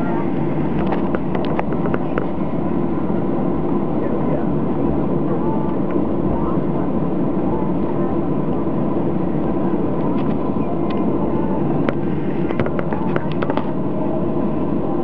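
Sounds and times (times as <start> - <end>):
aircraft cabin engine hum: 0.0 - 15.0.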